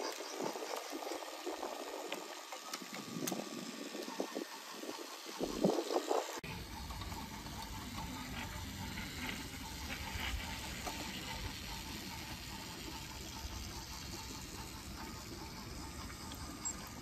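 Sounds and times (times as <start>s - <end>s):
toy train wheels clattering: 0.0s - 17.0s.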